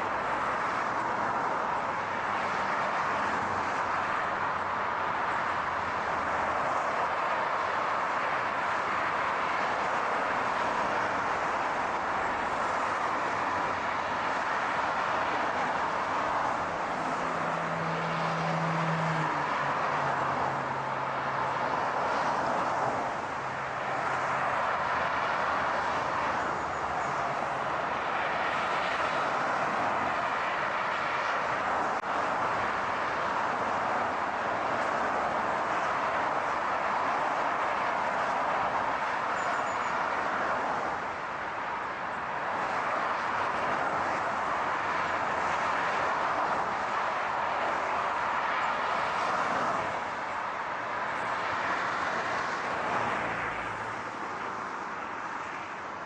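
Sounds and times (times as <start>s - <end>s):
car road noise: 0.0s - 56.0s.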